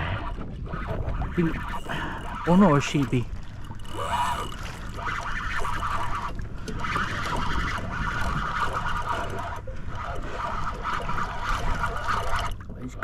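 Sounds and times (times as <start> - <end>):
fishing reel buzzing: 0.0 - 12.7
low rumble of wind and water: 0.0 - 13.0.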